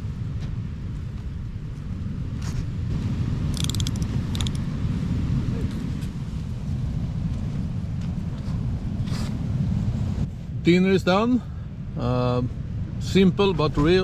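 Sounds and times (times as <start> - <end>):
storm wind buffeting tent: 0.0 - 14.0.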